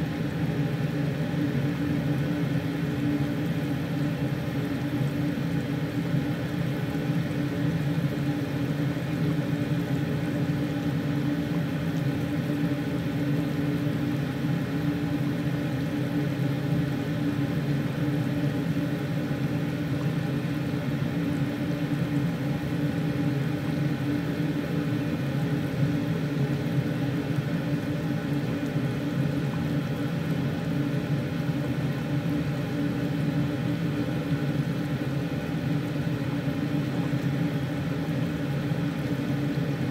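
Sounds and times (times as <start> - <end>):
low whirring hum: 0.0 - 39.9.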